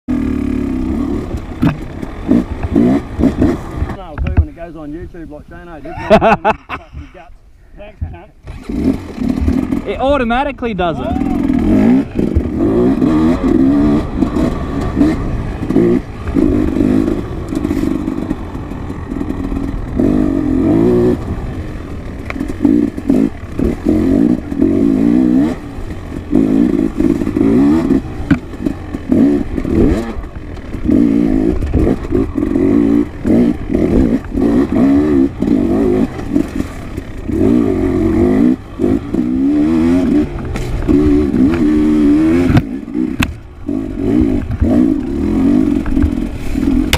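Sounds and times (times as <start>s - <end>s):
dirt bike engine revving: 0.1s - 6.4s, 8.1s - 46.9s.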